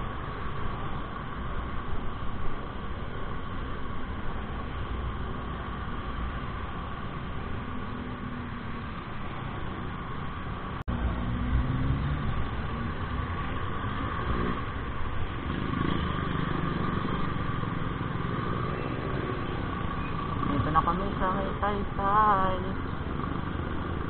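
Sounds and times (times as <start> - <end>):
scooter engine hum: 0.0 - 24.0.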